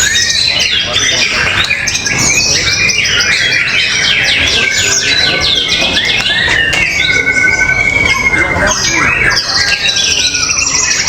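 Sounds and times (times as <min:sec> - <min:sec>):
bird singing rapid whistled song: 0:00.0 - 0:11.0.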